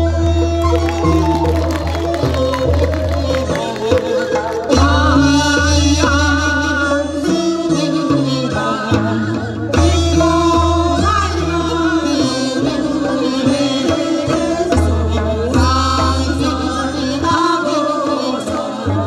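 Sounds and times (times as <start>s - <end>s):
amplified instrumental accompaniment: 0.0s - 19.0s
women singing folk song: 0.2s - 19.0s.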